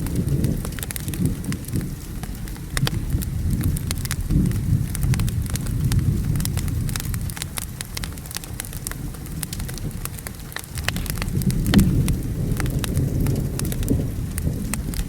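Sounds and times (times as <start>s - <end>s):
low rumble of thunder: 0.0s - 15.0s
rain hissing: 0.0s - 15.0s
wood fire crackling: 0.0s - 15.0s.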